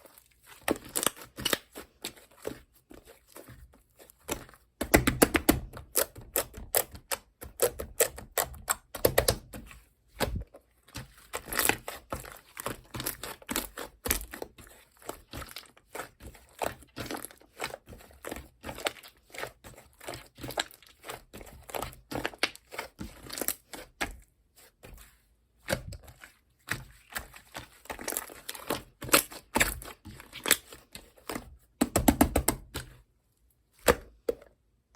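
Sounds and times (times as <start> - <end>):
slime being squished: 0.0 - 33.0.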